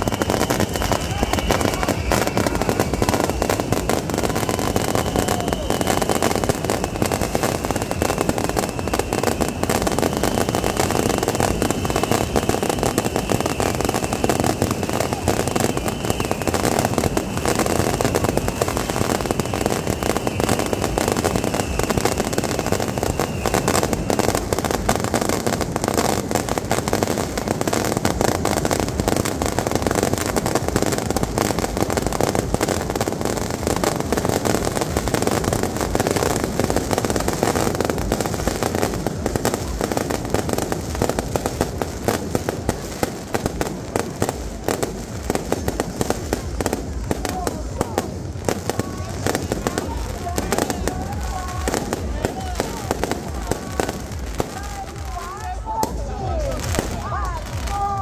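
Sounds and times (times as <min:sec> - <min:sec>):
firecrackers crackling: 0:00.0 - 0:58.0.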